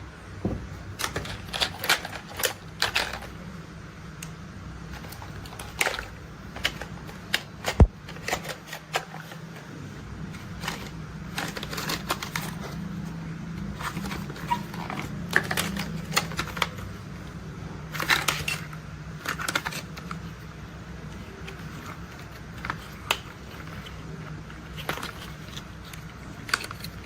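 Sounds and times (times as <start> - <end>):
low steady hum: 0.0 - 27.0
plastic toys clicking and clacking: 1.0 - 3.4, 4.9 - 9.4, 10.4 - 12.8, 13.7 - 16.9, 17.9 - 27.0.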